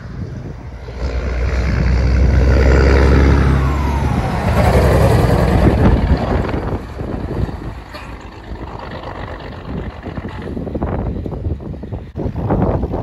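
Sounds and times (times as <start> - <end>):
truck diesel engine passing: 0.0 - 12.2
trailer wheels rumbling: 0.0 - 13.0.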